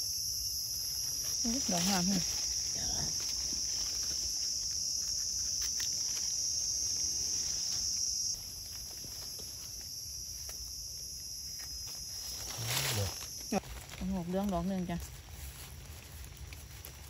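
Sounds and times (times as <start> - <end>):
chorus of forest insects: 0.0 - 17.0
hands rustling dry leaves: 0.6 - 10.7, 11.4 - 17.0.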